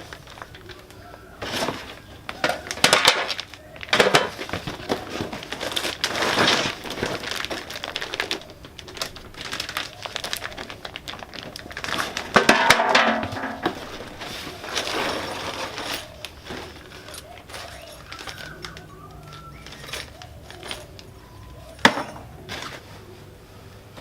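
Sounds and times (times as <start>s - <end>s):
packaging crumpling by hand: 0.0s - 21.6s.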